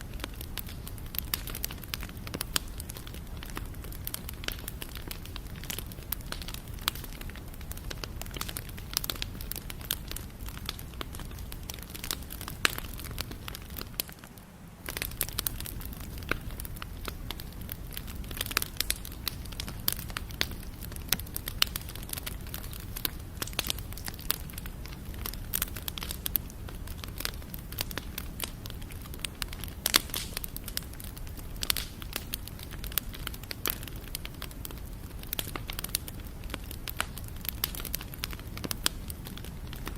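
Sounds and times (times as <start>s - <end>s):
burning wood popping: 0.0s - 39.9s
flames rumbling: 0.0s - 39.9s.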